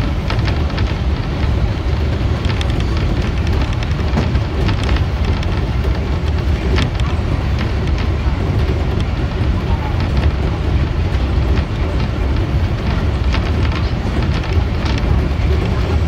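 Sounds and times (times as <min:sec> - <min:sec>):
sharp clicks and rattles: 0:00.0 - 0:16.0
train wheels rumbling on track: 0:00.0 - 0:16.0.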